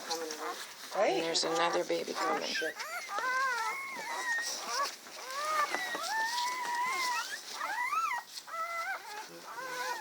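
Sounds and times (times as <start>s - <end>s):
dog whining: 0.0s - 10.0s.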